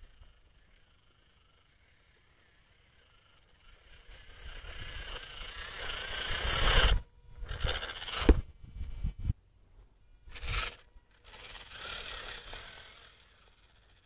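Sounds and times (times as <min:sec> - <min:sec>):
toy car grinding over dirt: 0:00.0 - 0:09.2, 0:10.2 - 0:14.0.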